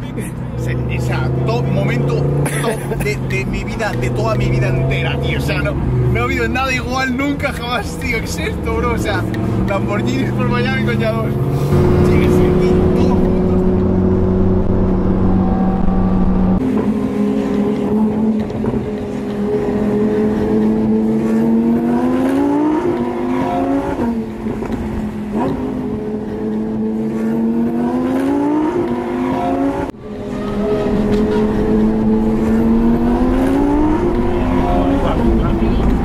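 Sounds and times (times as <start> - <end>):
sports car engine accelerating: 0.2 - 36.0.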